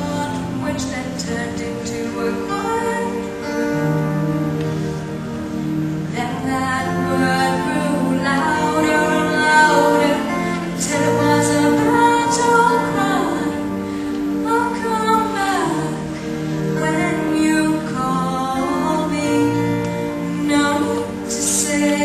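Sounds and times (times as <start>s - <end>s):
woman singing: 0.0s - 4.6s, 6.0s - 22.0s
instrumental accompaniment: 0.0s - 22.0s.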